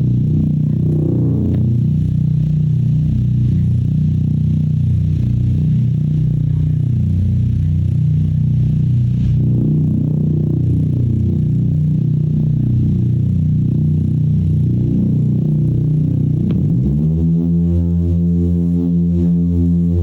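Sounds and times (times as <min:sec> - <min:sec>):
low droning tone: 0:00.0 - 0:20.0.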